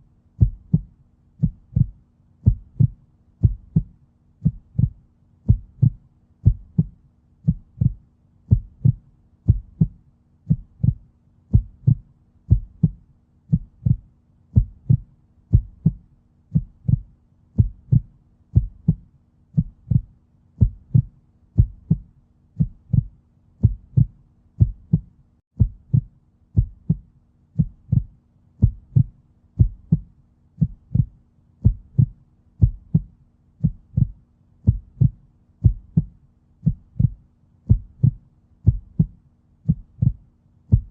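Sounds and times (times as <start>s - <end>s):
heartbeat thuds: 0.4s - 40.9s.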